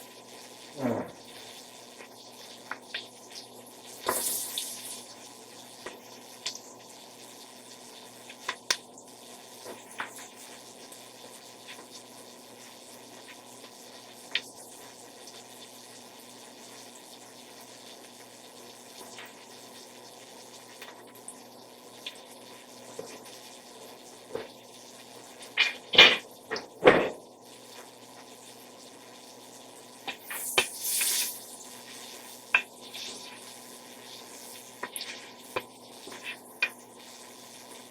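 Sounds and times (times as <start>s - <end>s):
onion sizzling in oil: 0.0s - 37.9s.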